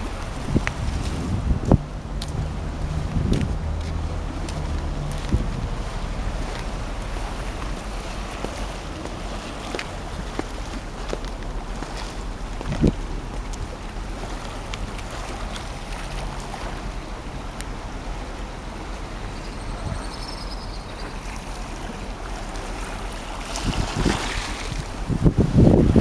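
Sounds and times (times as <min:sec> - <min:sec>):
harbour water washing: 0:00.0 - 0:26.0
wind buffeting microphone: 0:00.0 - 0:26.0.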